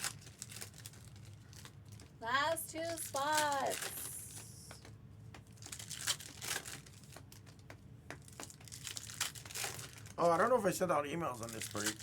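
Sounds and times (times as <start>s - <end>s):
foil wrappers crinkling: 0.0s - 4.8s, 5.5s - 7.6s, 8.2s - 12.0s.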